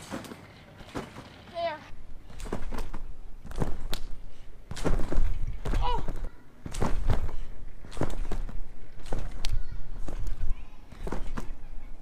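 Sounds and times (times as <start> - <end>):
feet thudding on trampoline mat: 0.0 - 1.4, 2.2 - 11.6.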